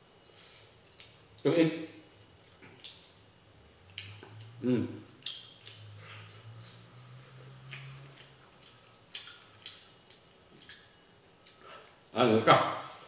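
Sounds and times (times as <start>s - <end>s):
wet chewing and lip-smacking: 0.2s - 1.4s, 2.2s - 4.6s, 5.2s - 12.1s.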